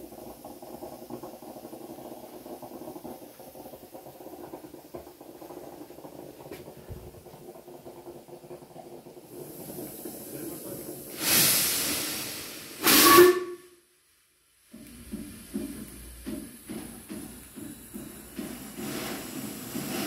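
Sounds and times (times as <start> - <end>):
steam locomotive hissing: 0.0 - 13.7, 14.7 - 20.0.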